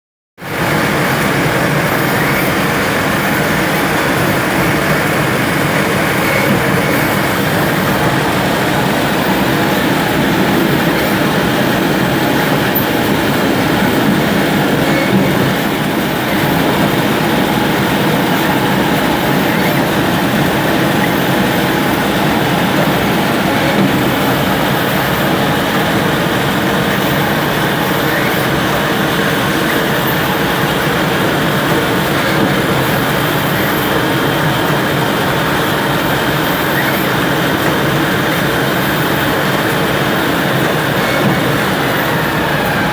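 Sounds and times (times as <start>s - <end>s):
lathe running: 0.4s - 42.9s.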